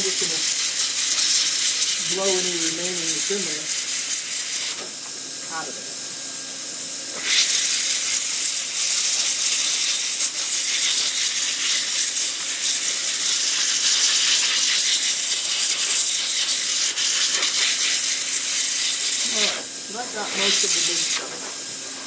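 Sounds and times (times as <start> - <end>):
vacuum exhaust air rushing hiss: 0.0 - 22.0.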